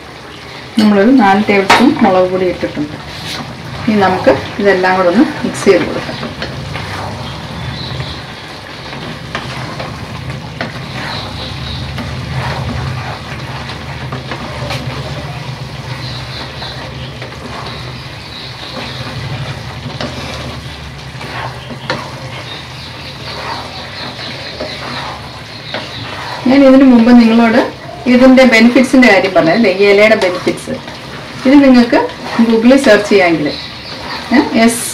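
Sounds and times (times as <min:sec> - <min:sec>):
food sizzling: 0:00.0 - 0:34.9
spatula scraping in pan: 0:00.0 - 0:34.9.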